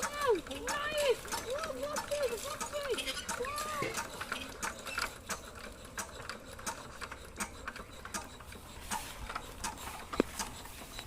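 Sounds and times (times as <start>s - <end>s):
mechanical clicking and ticking: 0.0s - 11.0s.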